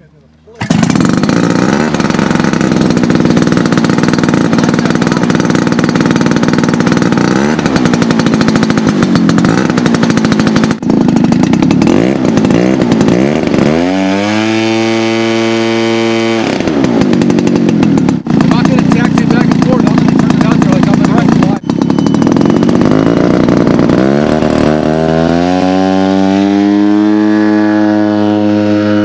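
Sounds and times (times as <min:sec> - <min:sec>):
model plane engine revving: 0:00.6 - 0:29.0.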